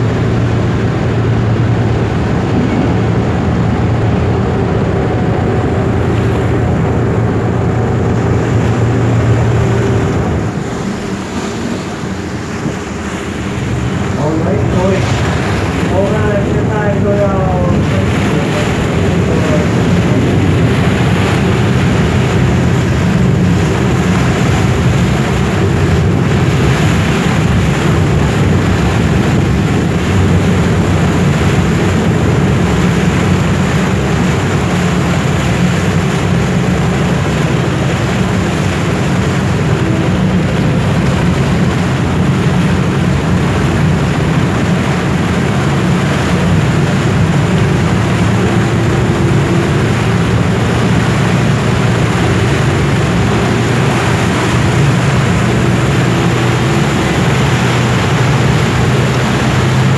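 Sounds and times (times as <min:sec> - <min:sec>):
air noise: 0:00.0 - 0:59.9
boat engine humming: 0:00.0 - 0:59.9
water wash: 0:00.0 - 0:59.9.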